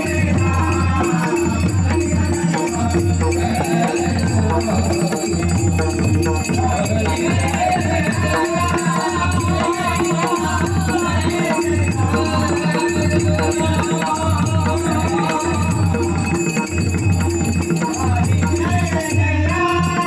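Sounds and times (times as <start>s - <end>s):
person singing devotional song: 0.0s - 20.0s
rattling percussion: 0.0s - 20.0s.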